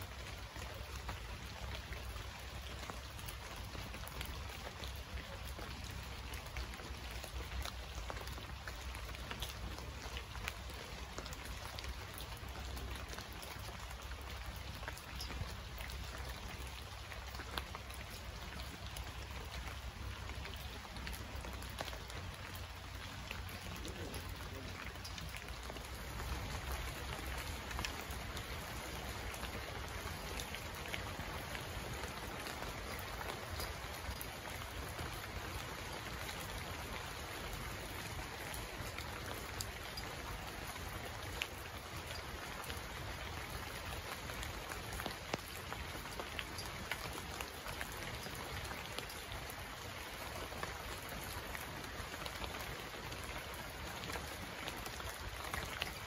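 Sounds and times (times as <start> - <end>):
raindrop ticks: 0.0 - 56.0
steady rain hiss: 0.0 - 56.0.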